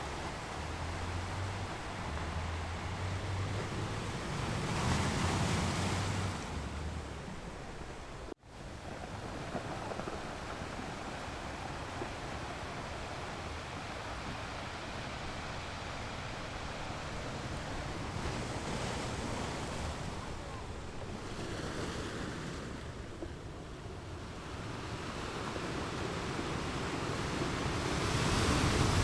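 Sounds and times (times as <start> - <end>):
ocean surf washing ashore: 0.0 - 29.0.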